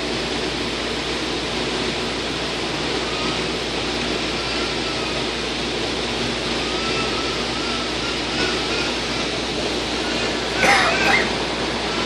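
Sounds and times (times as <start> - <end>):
train car running noise: 0.0 - 12.0.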